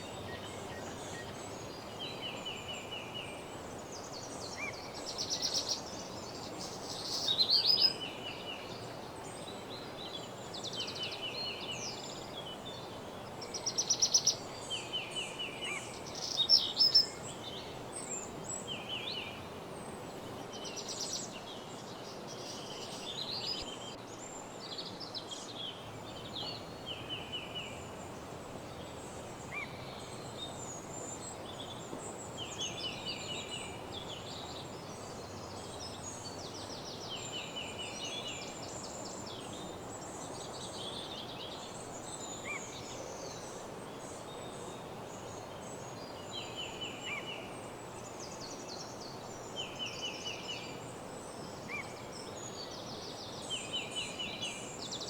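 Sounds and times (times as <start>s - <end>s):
background hiss: 0.0s - 55.0s
birds singing: 0.0s - 55.0s.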